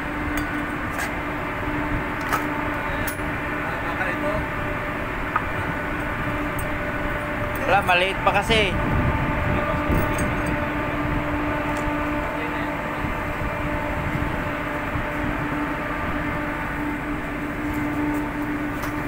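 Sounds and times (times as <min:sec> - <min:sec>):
ship machinery droning: 0:00.0 - 0:19.0.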